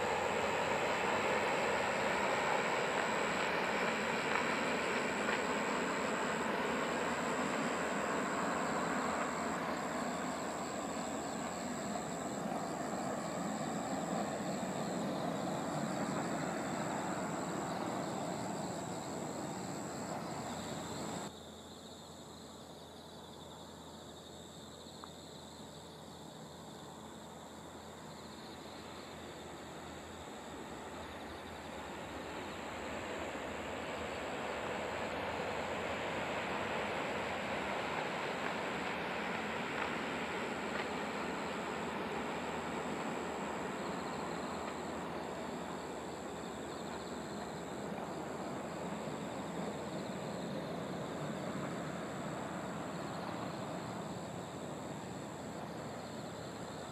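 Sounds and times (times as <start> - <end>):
distant high-speed train rushing: 0.0 - 21.3, 26.9 - 56.9.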